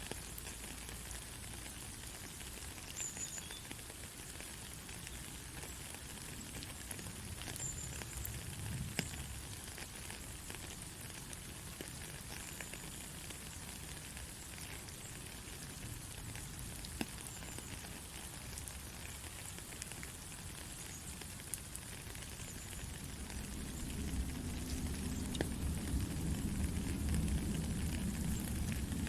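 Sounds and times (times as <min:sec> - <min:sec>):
gentle rain hiss: 0:00.0 - 0:29.0
raindrops ticking: 0:00.0 - 0:29.0.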